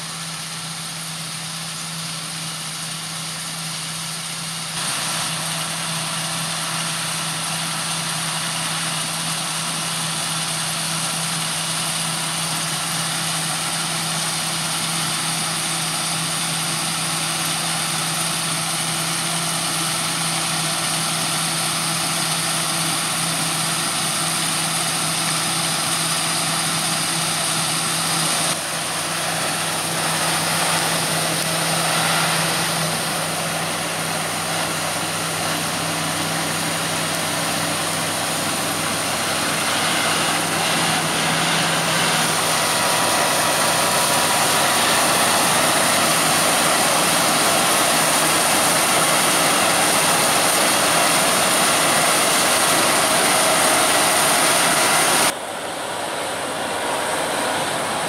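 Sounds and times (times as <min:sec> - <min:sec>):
auger discharging grain: 0:00.0 - 0:58.0
combine harvester droning: 0:00.0 - 0:58.0
tractor running: 0:00.0 - 0:58.0.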